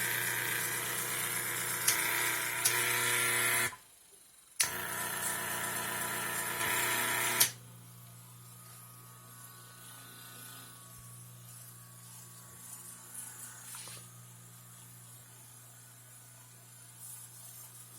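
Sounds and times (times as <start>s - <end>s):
electric fan motor buzzing: 0.0s - 3.8s, 4.6s - 17.9s.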